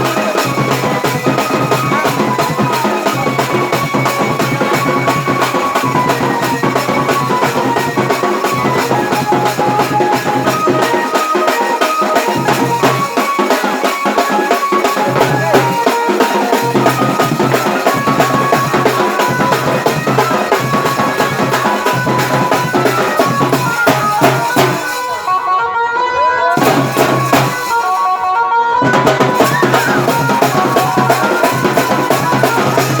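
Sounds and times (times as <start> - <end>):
steady drum beat: 0.0 - 25.5, 26.5 - 33.0.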